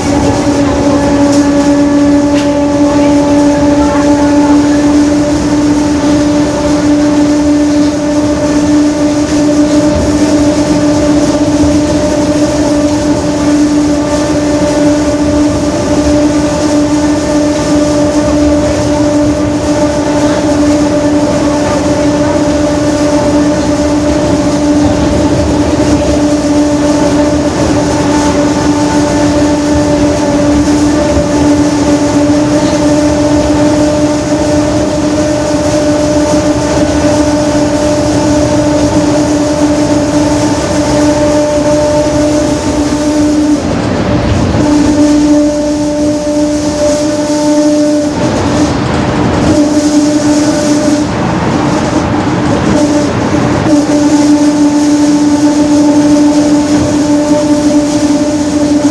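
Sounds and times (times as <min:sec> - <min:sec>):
bus engine rumble: 0:00.0 - 0:58.9
differential whine: 0:00.0 - 0:58.9.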